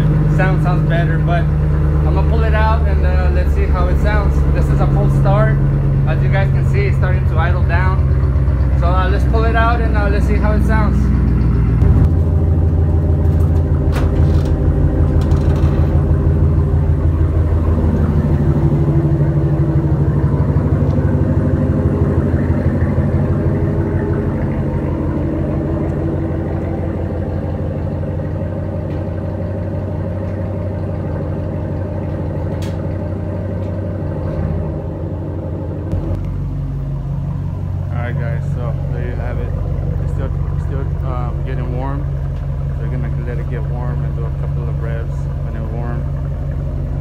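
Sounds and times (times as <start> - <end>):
engine exhaust rumble idling: 0.0 - 47.0.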